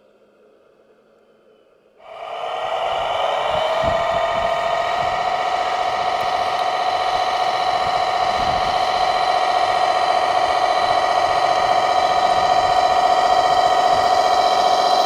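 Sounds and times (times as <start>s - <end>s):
high buzzing electric motor whine: 2.1s - 15.0s.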